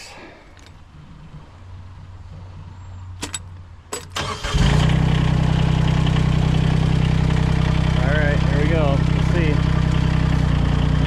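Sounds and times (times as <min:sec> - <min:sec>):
engine starting and running: 0:00.6 - 0:11.0.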